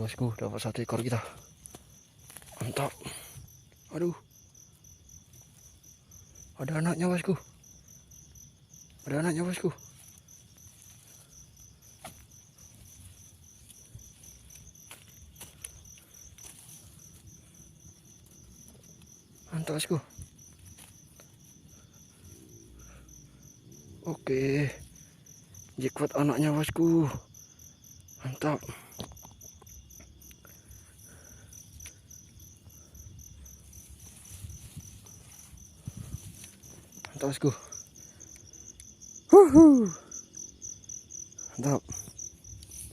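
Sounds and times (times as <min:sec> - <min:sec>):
cricket chirping: 0:00.0 - 0:42.9.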